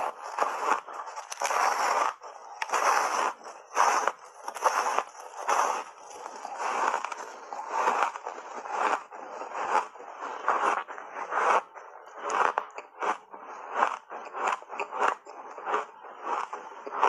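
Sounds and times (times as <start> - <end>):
ice crunching in mouth: 0.0 - 17.0.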